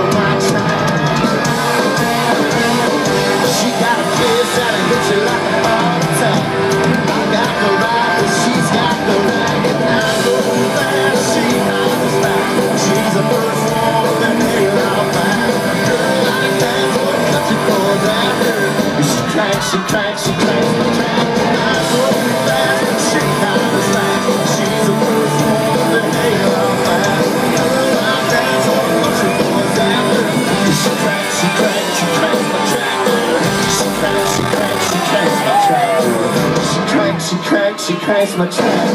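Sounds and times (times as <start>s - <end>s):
live country-rock band: 0.0s - 38.9s.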